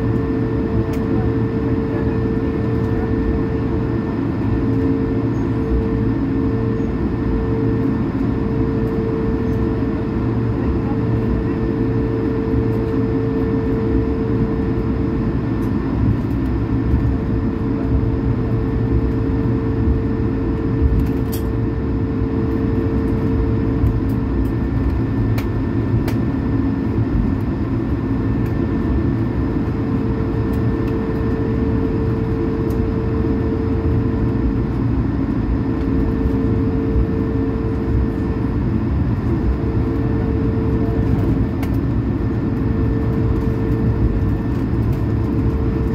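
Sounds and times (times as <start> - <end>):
aircraft cabin engine drone: 0.0 - 45.9.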